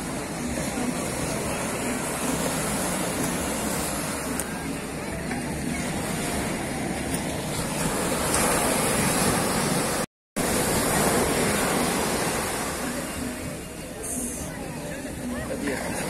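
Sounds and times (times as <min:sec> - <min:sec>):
surf washing up a beach: 0:00.0 - 0:16.0.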